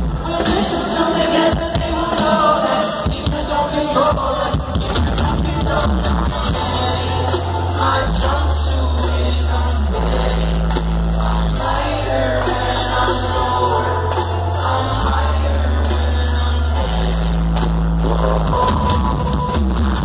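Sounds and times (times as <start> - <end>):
arena crowd: 0.0 - 20.0
drums: 0.0 - 20.0
lead vocal singing: 0.0 - 20.0.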